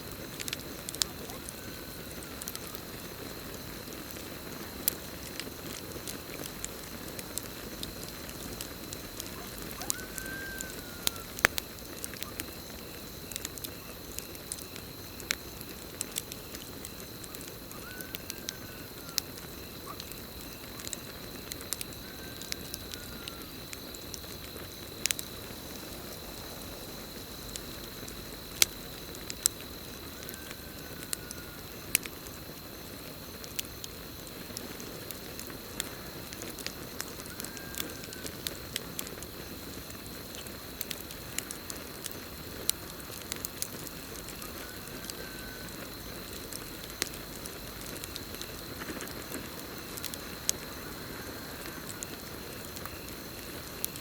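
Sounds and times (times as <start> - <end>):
campfire crackling: 0.0 - 54.0
cricket trill: 0.0 - 54.0.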